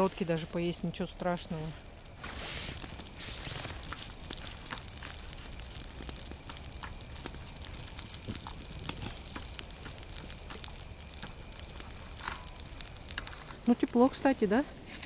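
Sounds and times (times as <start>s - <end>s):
crackles and pops: 0.0s - 15.0s
sausage sizzling in a pan: 0.0s - 15.0s.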